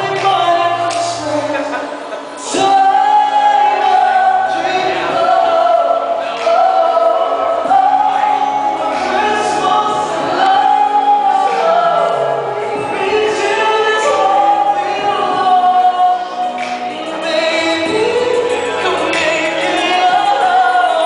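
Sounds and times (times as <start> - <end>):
pop song through loudspeakers: 0.0 - 21.0.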